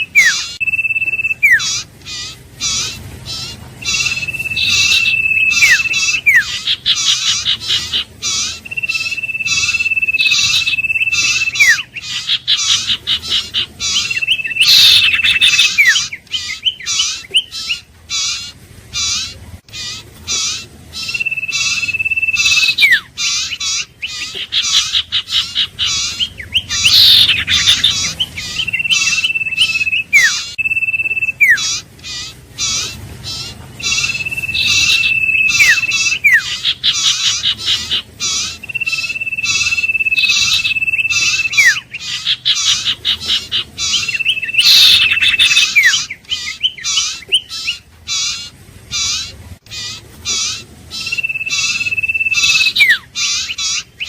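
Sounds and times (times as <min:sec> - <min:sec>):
bird long level whistles: 0:00.0 - 0:54.0
rapid sharp bird chirps: 0:00.0 - 0:54.0.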